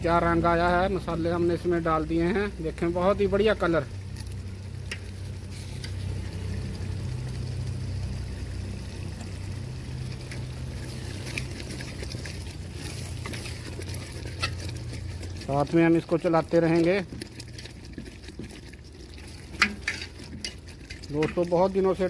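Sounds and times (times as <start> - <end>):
masala sizzling in a pot: 0.0 - 22.0
crackles and clicks: 2.6 - 22.0.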